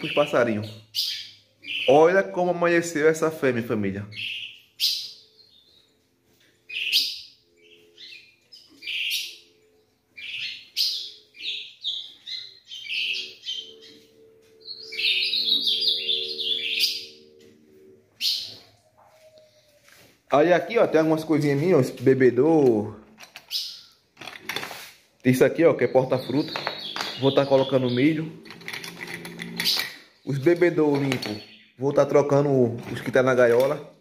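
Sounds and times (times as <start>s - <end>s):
songbirds chirping and singing: 0.0s - 24.5s, 25.3s - 34.0s.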